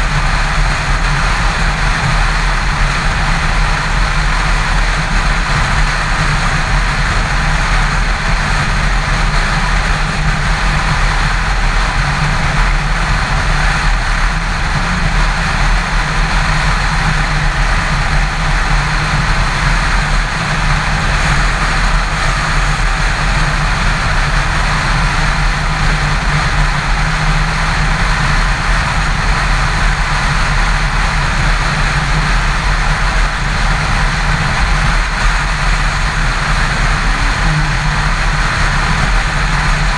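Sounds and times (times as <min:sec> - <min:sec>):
motorcycle engine hum: 0:00.0 - 0:39.9
wind rush: 0:00.0 - 0:39.9.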